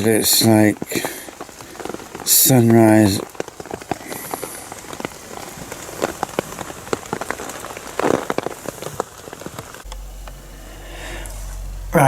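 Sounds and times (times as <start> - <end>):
rain drops striking fabric: 0.0 - 12.0.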